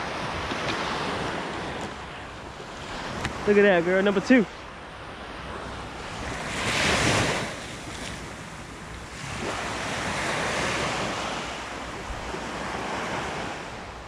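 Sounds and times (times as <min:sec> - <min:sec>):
ocean surf washing up beach: 0:00.0 - 0:14.0.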